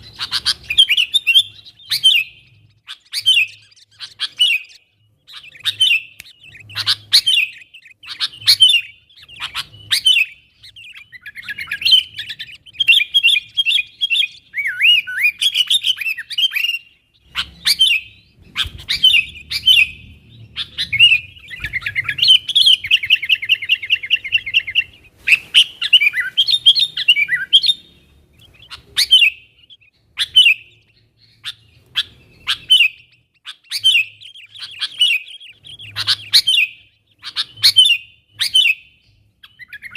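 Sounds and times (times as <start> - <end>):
bulbul chirping and trilling: 0.0 - 39.9.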